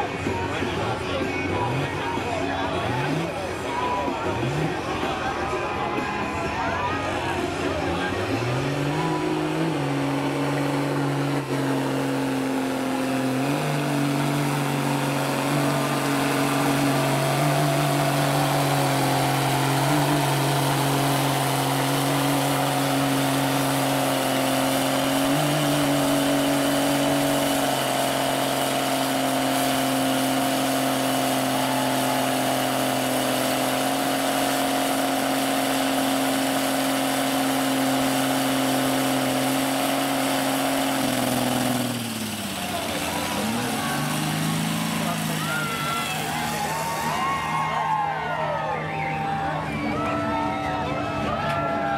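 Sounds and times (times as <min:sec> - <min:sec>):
truck engine at high revs: 0:00.0 - 0:51.9.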